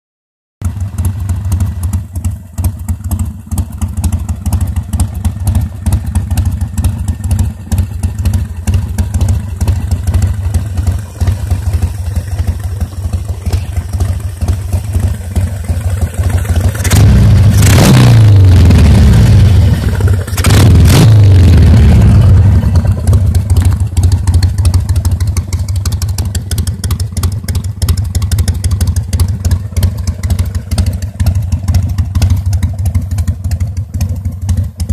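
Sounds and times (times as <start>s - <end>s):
motorcycle engine idling and revving: 0.6s - 34.9s.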